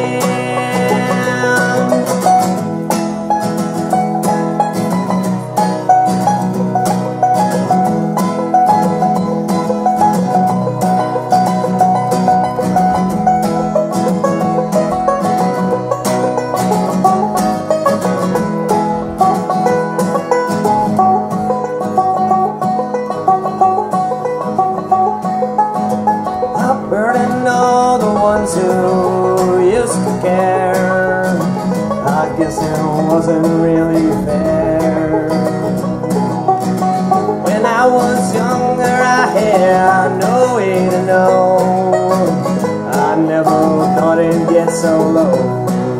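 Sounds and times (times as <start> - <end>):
acoustic guitar: 0.0 - 45.9
banjo picking fast notes: 0.0 - 45.9.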